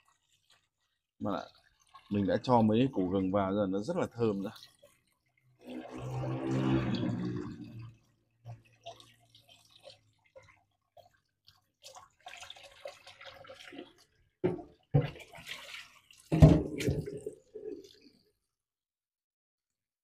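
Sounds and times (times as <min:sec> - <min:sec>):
water splashing and dripping: 0:00.0 - 0:18.5.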